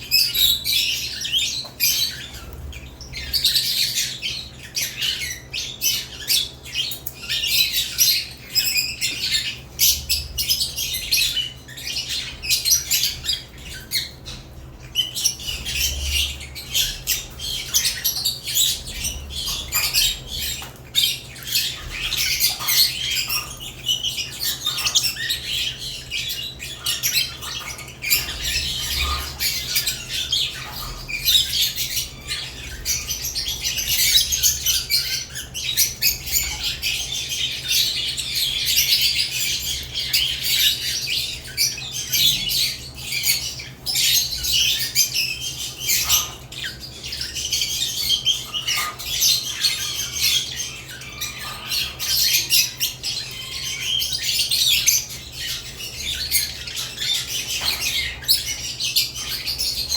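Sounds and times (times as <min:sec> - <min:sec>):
lovebirds chirping and squawking: 0:00.0 - 0:59.9.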